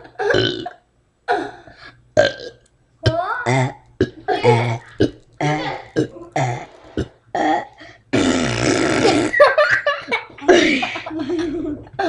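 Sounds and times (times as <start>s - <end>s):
child burping: 0.0s - 9.4s, 10.5s - 10.8s.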